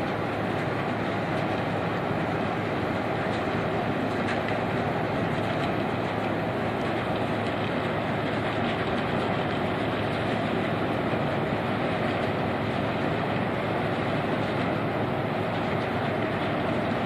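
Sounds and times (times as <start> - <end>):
vessel engine rumble: 0.0 - 17.0
water noise: 0.0 - 17.0.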